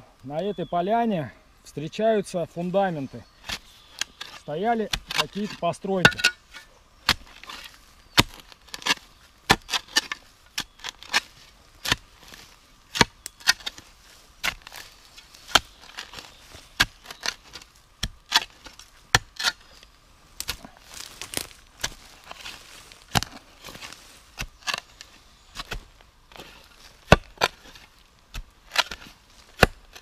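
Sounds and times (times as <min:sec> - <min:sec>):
spade chopping into soil: 0:03.4 - 0:19.8, 0:20.4 - 0:30.0.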